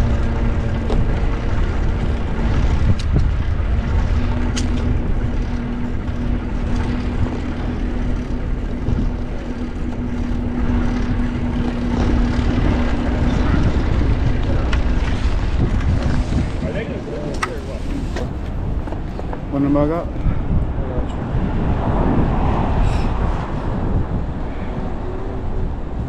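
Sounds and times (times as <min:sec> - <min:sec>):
low hum: 0:00.0 - 0:26.0
traffic: 0:00.0 - 0:26.0
wind on microphone: 0:00.0 - 0:26.0.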